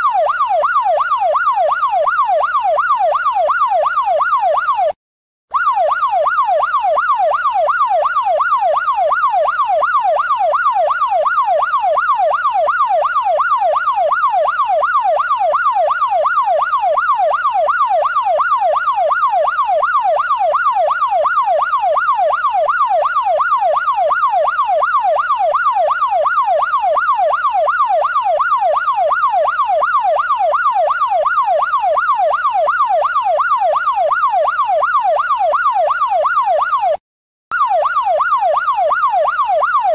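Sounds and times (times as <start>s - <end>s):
electronic police siren wailing: 0.0s - 39.9s.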